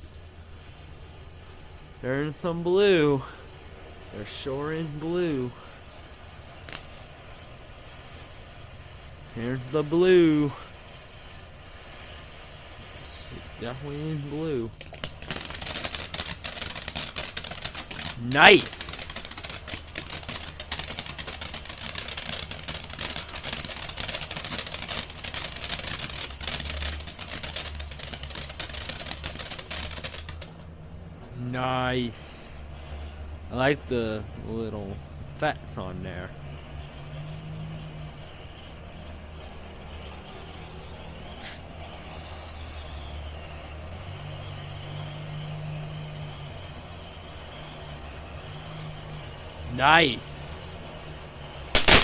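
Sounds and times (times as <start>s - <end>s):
dense crackling: 0.0s - 52.0s
firework fountain hissing: 0.0s - 52.0s.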